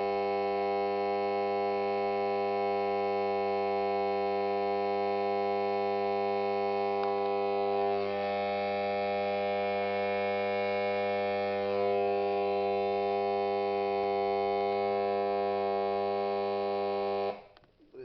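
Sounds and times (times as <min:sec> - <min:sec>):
transformer humming: 0:00.0 - 0:18.0.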